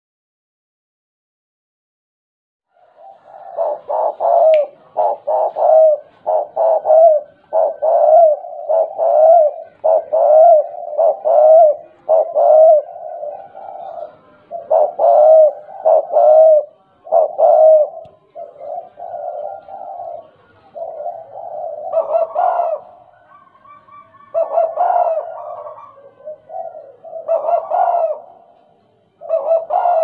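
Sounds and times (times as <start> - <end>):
dove cooing: 2.7 - 30.0.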